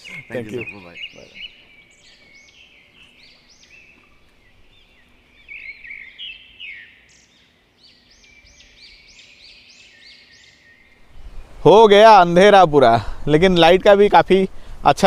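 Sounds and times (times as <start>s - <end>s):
birds chirping: 0.0s - 14.7s.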